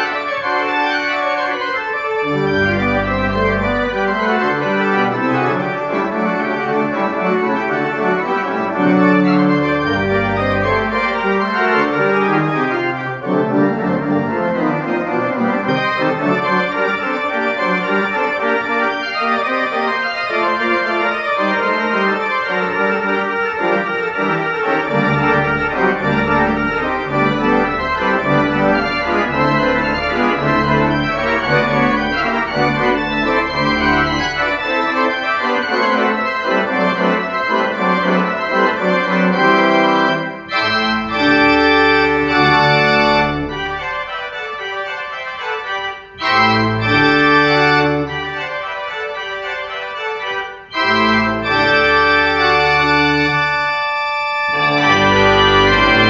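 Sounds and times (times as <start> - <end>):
deep organ pedal notes: 0.0 - 56.0
pipe organ playing: 0.0 - 56.0.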